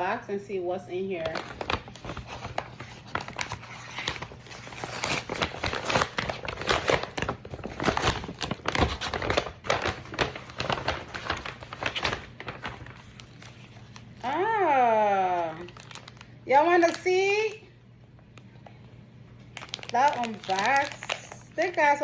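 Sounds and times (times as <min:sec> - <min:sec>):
packaging crinkling and rustling: 0:01.2 - 0:17.6, 0:18.2 - 0:22.0.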